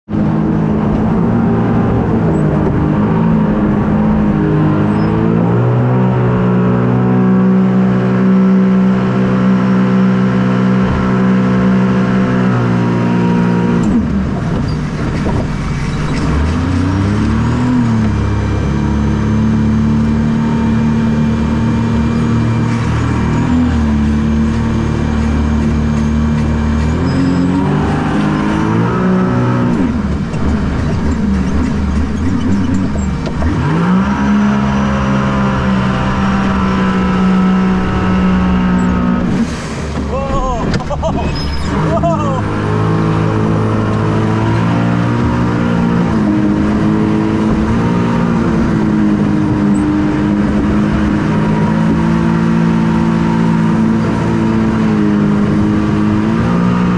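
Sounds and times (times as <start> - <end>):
personal watercraft engine revving: 0.1 - 56.9.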